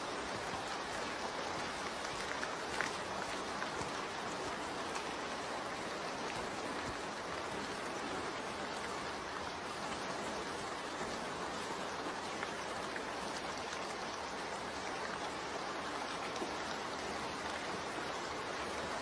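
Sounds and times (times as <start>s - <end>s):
rainfall: 0.0s - 19.0s
stream flowing: 0.0s - 19.0s.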